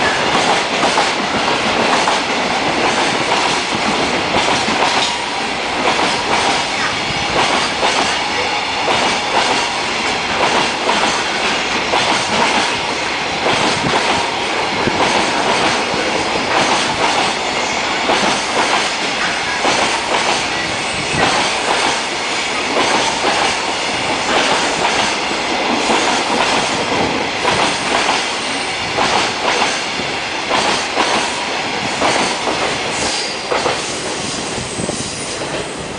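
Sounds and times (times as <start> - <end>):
train wheels clattering over rail joints: 0.0 - 5.2, 8.8 - 17.4, 18.0 - 34.0.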